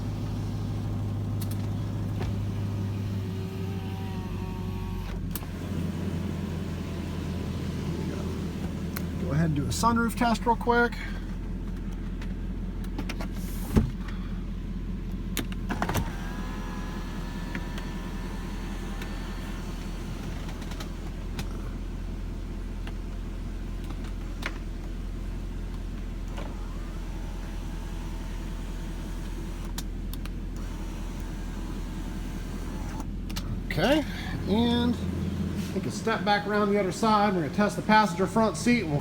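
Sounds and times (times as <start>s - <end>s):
car engine idling: 0.0s - 39.0s
sunroof motor whining: 0.0s - 39.0s.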